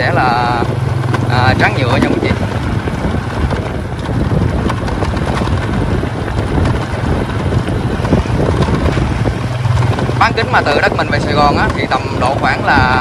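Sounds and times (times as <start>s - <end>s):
vehicle engine and tyre rumble: 0.0s - 13.0s
wind buffeting microphone: 0.0s - 13.0s.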